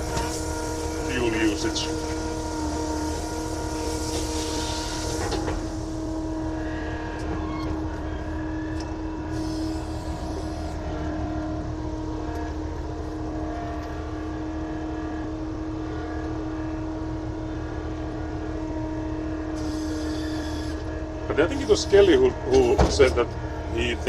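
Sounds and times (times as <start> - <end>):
loader engine running steadily: 0.0 - 24.0.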